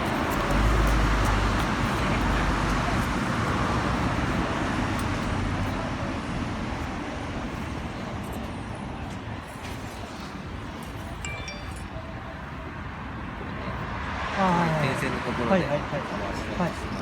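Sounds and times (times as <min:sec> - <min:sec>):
vehicle rumble and tyre noise: 0:00.0 - 0:11.2, 0:11.8 - 0:17.0.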